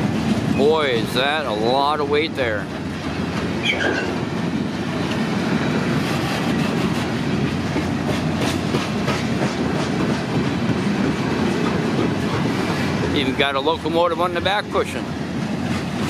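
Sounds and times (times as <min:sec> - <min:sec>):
freight train wheels rumbling on rail: 0:00.0 - 0:16.0
wheels clacking over rail joints: 0:00.0 - 0:16.0.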